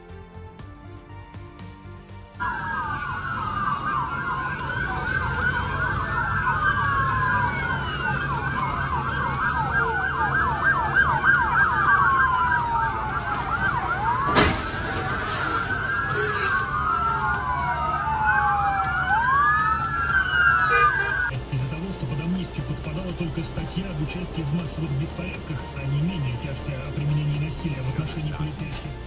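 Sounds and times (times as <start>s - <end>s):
low engine rumble: 1.9s - 29.0s
police sirens wailing and yelping: 2.4s - 29.0s.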